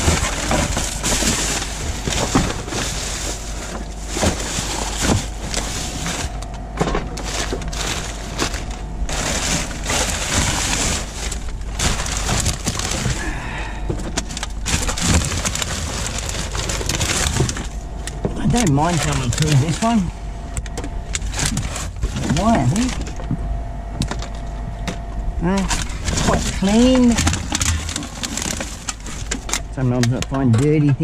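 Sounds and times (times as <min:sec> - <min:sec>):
plastic bags crackling: 0:00.0 - 0:23.3, 0:25.4 - 0:30.4.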